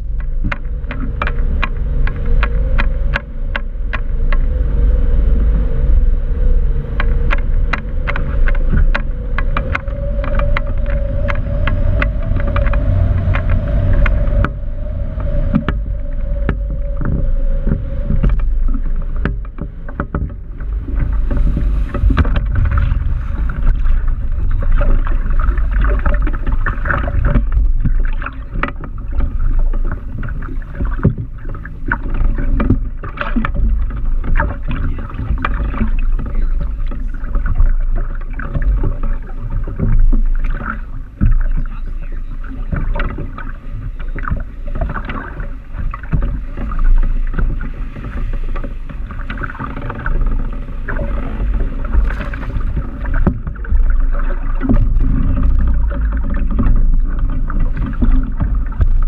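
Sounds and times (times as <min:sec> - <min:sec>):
low steady rumble: 0:00.0 - 0:59.0
seawater splashing: 0:00.0 - 0:59.0.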